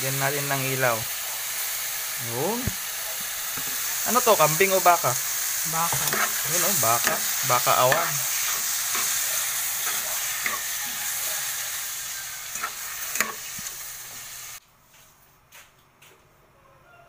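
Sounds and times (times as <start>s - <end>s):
beef sizzling in a pot: 0.0s - 14.6s.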